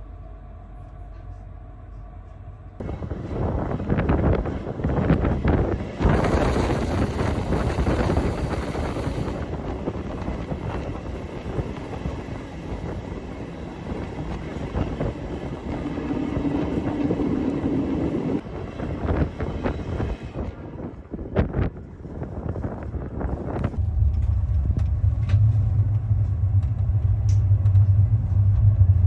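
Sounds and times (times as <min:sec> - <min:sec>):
train rumbling along track: 0:00.0 - 0:29.0
wind noise: 0:02.8 - 0:29.0.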